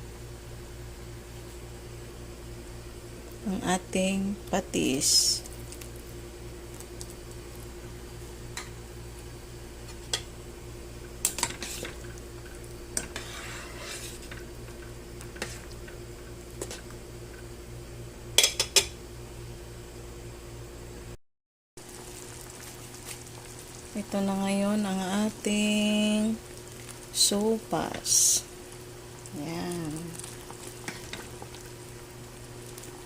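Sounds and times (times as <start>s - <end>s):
steady low hum: 0.0s - 21.2s, 21.8s - 33.0s.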